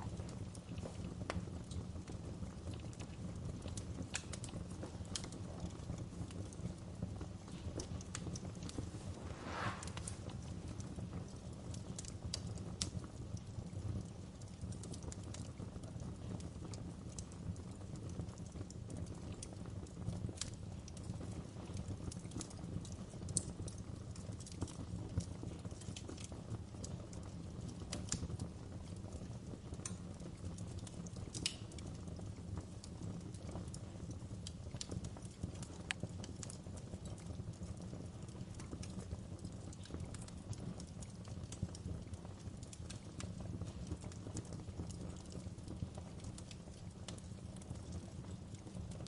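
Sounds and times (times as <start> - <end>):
logs crackling and popping: 0.0 - 49.0
low rumble of flames: 0.0 - 49.0.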